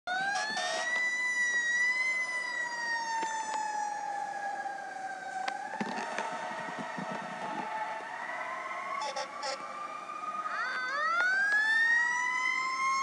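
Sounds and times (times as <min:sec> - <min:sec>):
fire truck siren wailing: 0:00.1 - 0:13.0.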